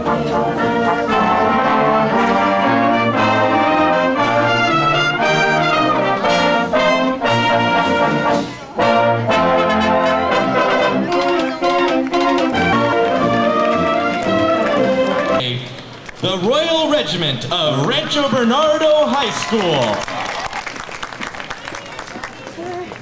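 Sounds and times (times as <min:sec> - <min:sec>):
marching band playing: 0:00.0 - 0:20.1.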